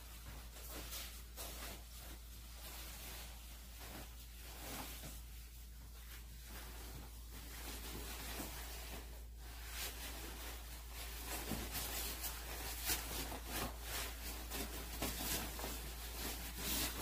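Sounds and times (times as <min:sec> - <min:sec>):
clothing fabric rustling: 0:00.0 - 0:17.0.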